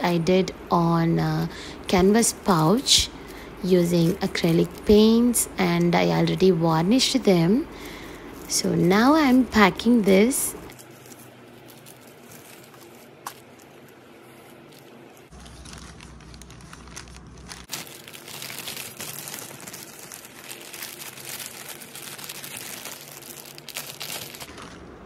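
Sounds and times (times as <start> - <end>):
plastic bag crinkling: 2.2 - 25.0.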